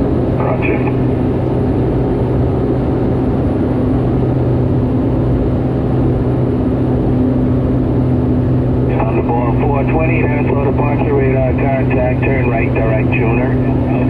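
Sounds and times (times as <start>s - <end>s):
turboprop engine drone: 0.0s - 14.0s.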